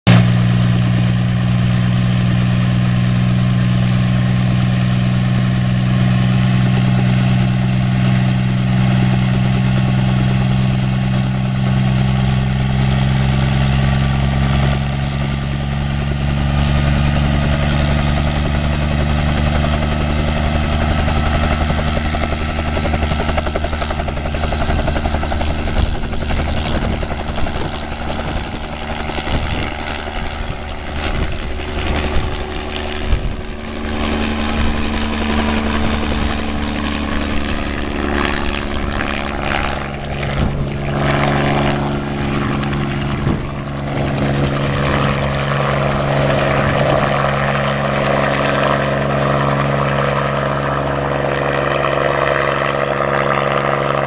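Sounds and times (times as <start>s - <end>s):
helicopter engine and rotor: 0.1s - 54.0s.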